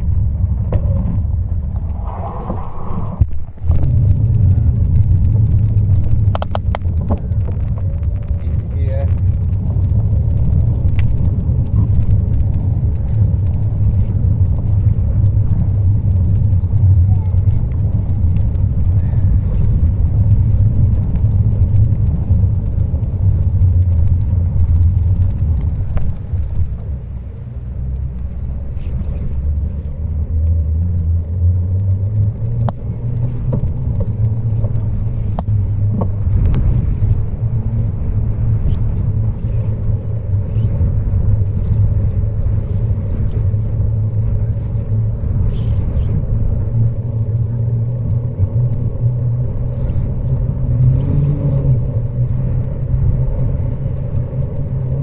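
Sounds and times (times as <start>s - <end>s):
bicycle tyres on road: 0.0s - 55.0s
wind buffeting microphone: 0.0s - 55.0s
sharp clicks and rattles: 3.2s - 55.0s.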